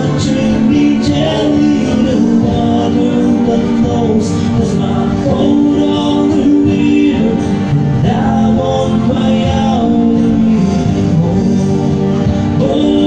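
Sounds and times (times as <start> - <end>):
acoustic guitar: 0.0 - 13.0
man singing: 0.0 - 13.0.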